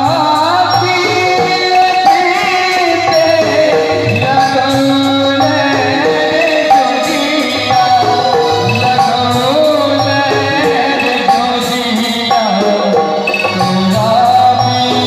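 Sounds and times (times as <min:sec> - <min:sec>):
melody of wavering notes: 0:00.0 - 0:15.0
steady drum beat: 0:00.0 - 0:15.0.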